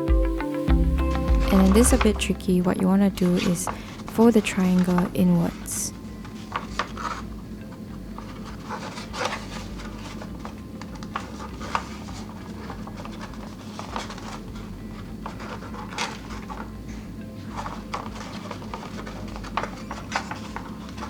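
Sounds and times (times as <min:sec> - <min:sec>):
steady low hum: 0:00.0 - 0:21.0
paper crinkling: 0:01.4 - 0:21.0.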